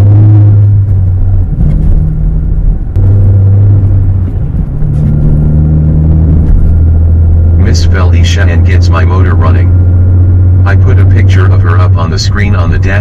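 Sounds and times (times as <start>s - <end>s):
car engine drone inside cabin: 0.0s - 13.0s
road rumble: 0.0s - 13.0s.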